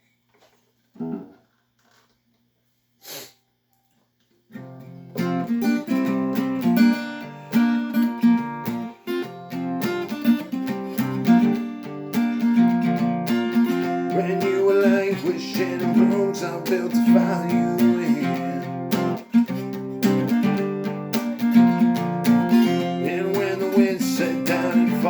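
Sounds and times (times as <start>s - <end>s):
acoustic guitar strumming chords: 4.6s - 25.0s.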